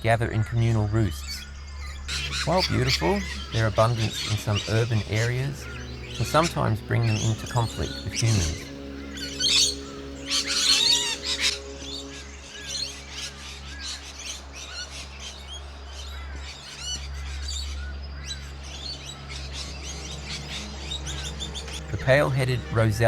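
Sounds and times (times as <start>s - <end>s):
low background music: 0.5s - 23.0s
parrots screeching and chirping: 1.3s - 22.7s.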